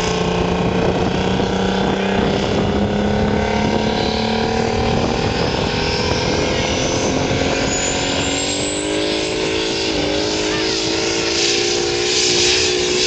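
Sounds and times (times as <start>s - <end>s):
diesel truck engine under heavy load: 0.0s - 13.0s
high rising whine: 0.0s - 13.0s.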